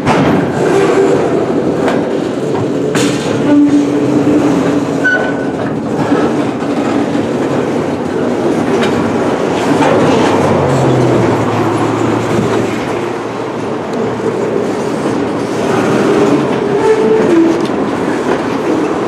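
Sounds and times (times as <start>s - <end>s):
freight wheels clattering on rails: 0.0s - 19.0s.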